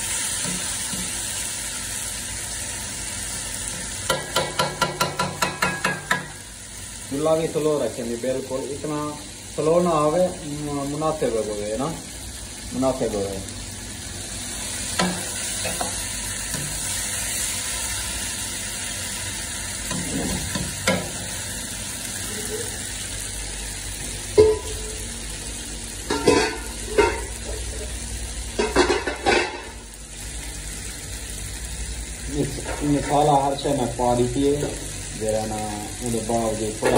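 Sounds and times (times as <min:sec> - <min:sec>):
meat and potatoes sizzling in a wok: 0:00.0 - 0:36.9.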